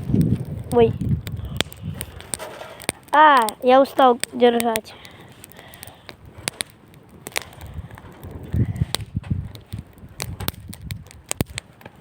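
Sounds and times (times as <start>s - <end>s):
bonfire crackling and popping: 0.0s - 12.0s.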